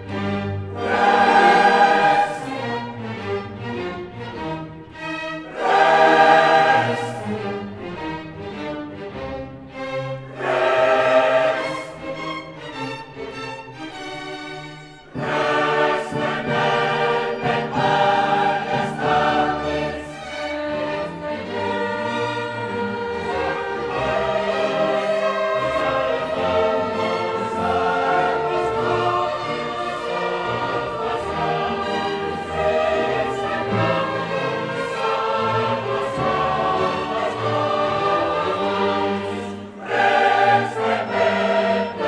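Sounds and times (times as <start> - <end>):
choir singing: 0.0 - 42.0
orchestra playing: 0.0 - 42.0.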